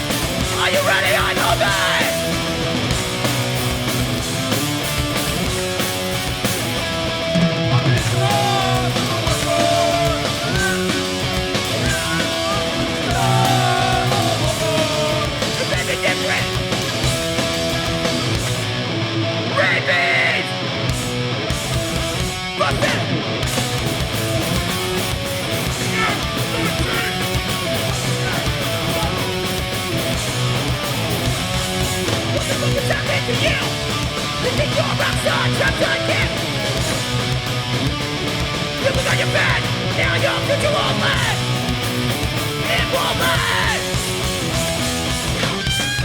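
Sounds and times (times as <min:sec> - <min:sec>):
bass guitar: 0:00.0 - 0:46.0
distorted electric guitars: 0:00.0 - 0:46.0
drums: 0:00.0 - 0:46.0.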